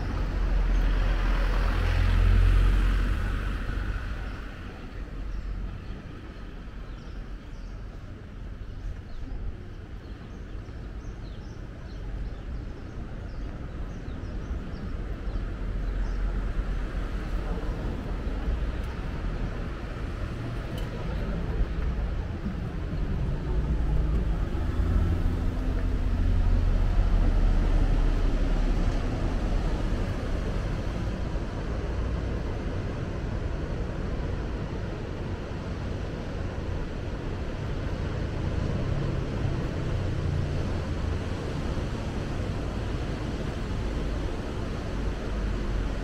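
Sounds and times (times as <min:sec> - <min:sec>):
road traffic rumble: 0:00.0 - 0:46.0.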